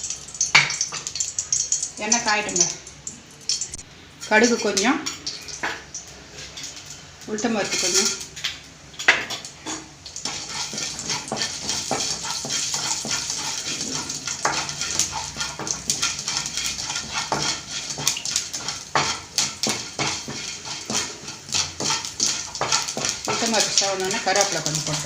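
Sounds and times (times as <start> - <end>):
seeds sizzling and popping in oil: 0.0 - 25.0.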